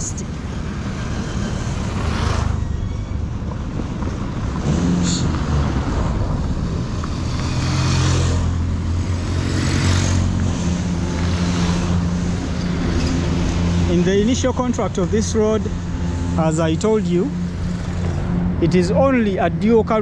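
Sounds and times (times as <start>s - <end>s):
road noise: 0.0s - 20.0s
car engine running: 4.0s - 20.0s.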